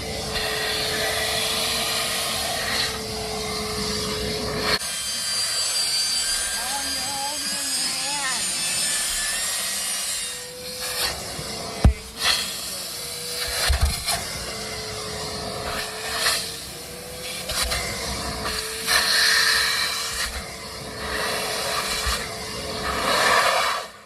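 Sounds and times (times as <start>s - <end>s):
shop vacuum motor whine: 0.0s - 24.0s
vacuum nozzle scraping upholstery: 0.0s - 24.0s.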